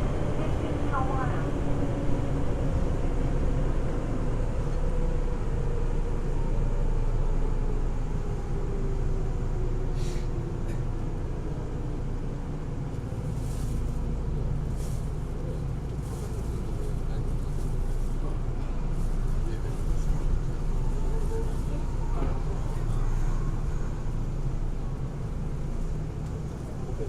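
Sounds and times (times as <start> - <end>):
train cabin rumble and whine: 0.0 - 27.0.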